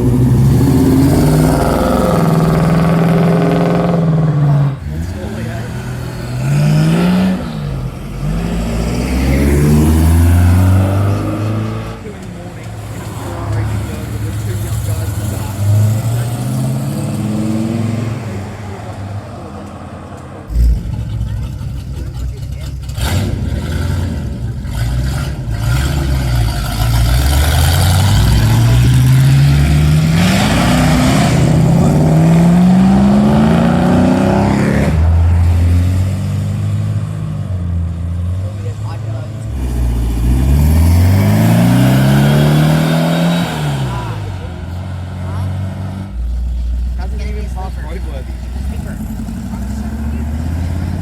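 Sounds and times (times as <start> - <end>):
car accelerating hard: 0.0 - 51.0.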